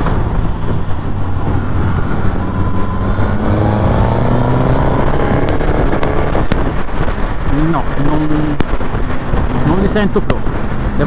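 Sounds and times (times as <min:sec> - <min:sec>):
motorcycle engine accelerating: 0:00.0 - 0:09.8.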